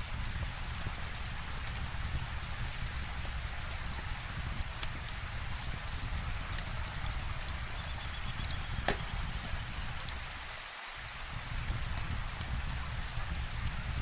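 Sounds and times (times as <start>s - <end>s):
rain falling: 0.0s - 14.0s
wood fire crackling and popping: 0.1s - 7.8s, 8.4s - 10.3s, 11.3s - 14.0s.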